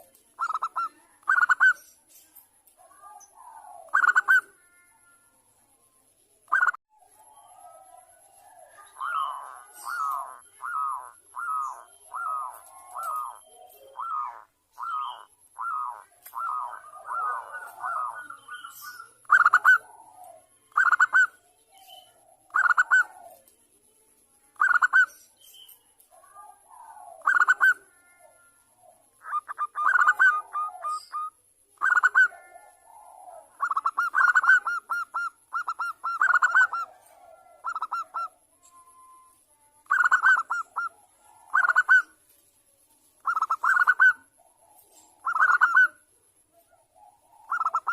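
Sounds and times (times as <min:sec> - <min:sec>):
dove cooing in trilled phrases: 0:00.0 - 0:01.9, 0:02.8 - 0:05.2, 0:06.5 - 0:23.5, 0:24.6 - 0:25.2, 0:26.1 - 0:42.2, 0:43.2 - 0:47.9.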